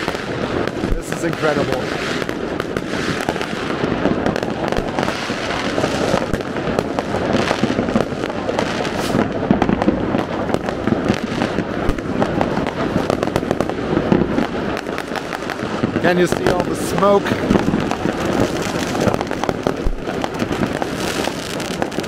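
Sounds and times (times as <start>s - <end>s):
fireworks and firecrackers bangs: 0.0s - 22.0s.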